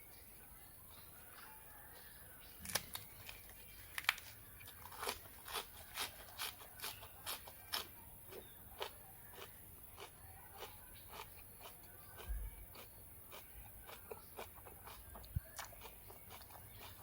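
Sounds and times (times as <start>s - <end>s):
steady chewing: 0.8s - 17.0s
crunching bites: 2.6s - 17.0s.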